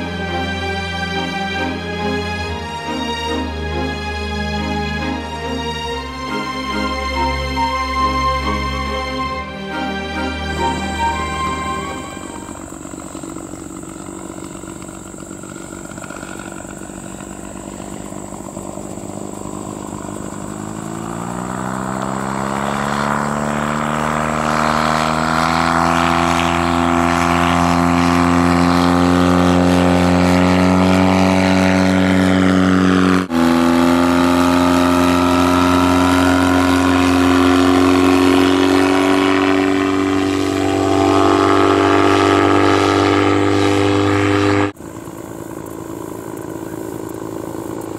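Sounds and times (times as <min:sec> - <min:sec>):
gyrocopter engine and propeller drone: 0:00.0 - 0:47.9.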